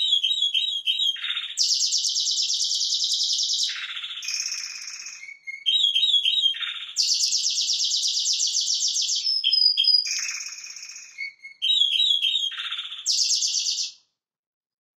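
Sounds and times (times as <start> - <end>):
canary singing trills: 0.0 - 14.0.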